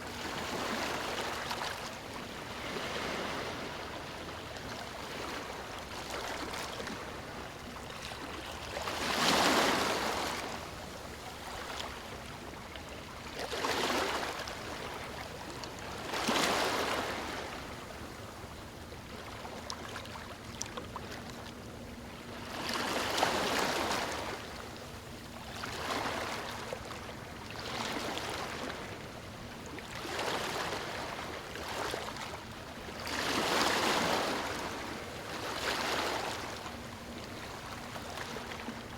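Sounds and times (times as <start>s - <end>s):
water lapping: 0.1s - 38.9s.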